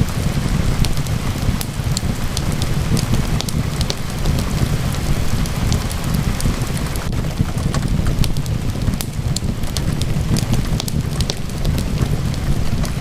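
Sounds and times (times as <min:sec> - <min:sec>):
deep steady rumble: 0:00.0 - 0:13.0
fireplace fire crackling: 0:00.0 - 0:13.0
steady rain falling: 0:00.0 - 0:13.0.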